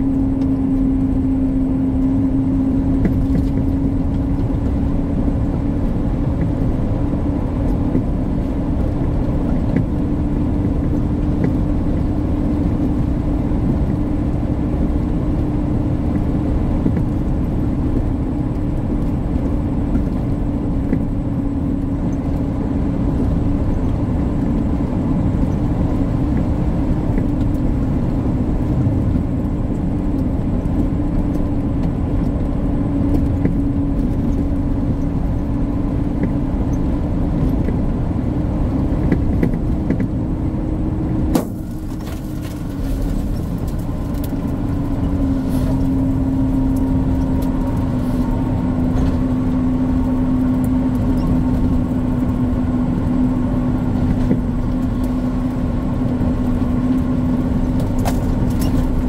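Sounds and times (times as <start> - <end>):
road and tyre rumble: 0.0 - 59.0
truck engine drone: 0.0 - 59.0.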